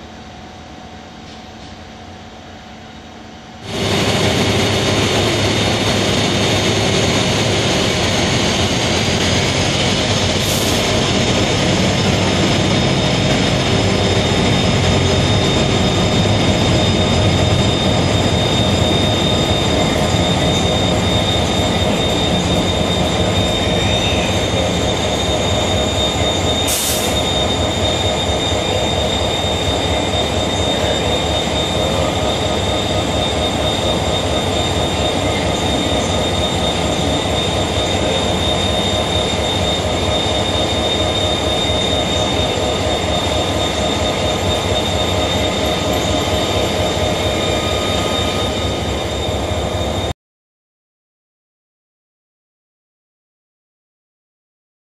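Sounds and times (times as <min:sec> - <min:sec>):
train wheels on rails: 0:01.1 - 0:01.9, 0:03.6 - 0:50.1
steady high tone: 0:03.6 - 0:50.1.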